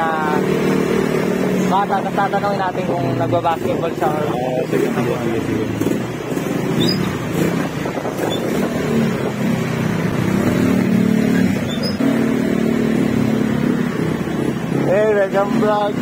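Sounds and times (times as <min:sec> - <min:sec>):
motor scooter engine humming: 0:00.0 - 0:16.0.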